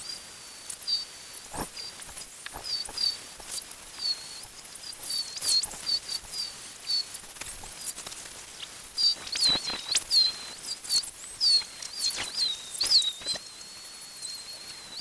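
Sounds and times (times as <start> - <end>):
small birds chirping: 0.8 - 13.2.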